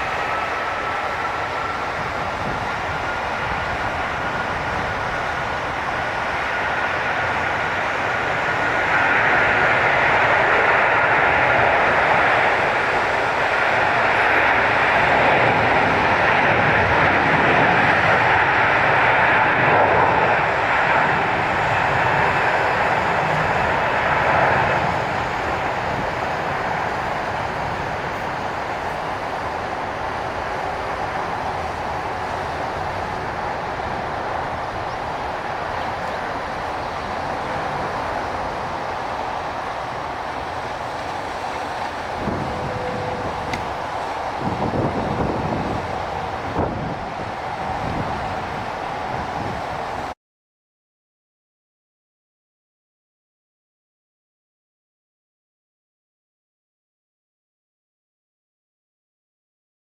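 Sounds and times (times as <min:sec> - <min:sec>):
jet engine roar: 0:00.0 - 0:50.2.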